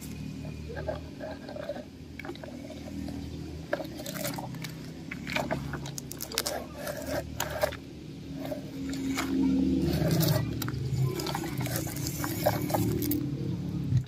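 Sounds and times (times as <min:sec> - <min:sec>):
crunching on dry dirt and leaves: 0:02.2 - 0:14.0.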